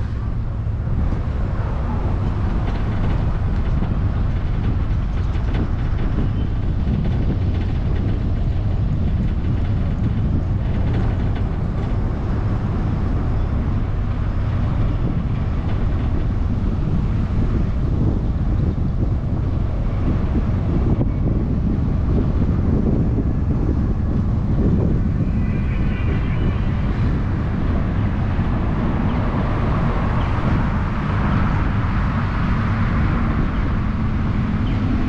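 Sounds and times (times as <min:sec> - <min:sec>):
vehicle rumble on road: 0:00.0 - 0:35.0
wind noise: 0:00.0 - 0:35.0.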